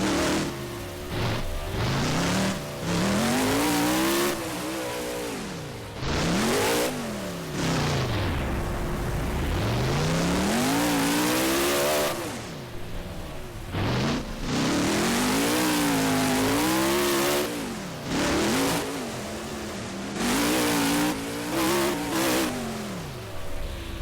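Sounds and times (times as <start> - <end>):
truck engine revving hard: 0.0 - 24.0.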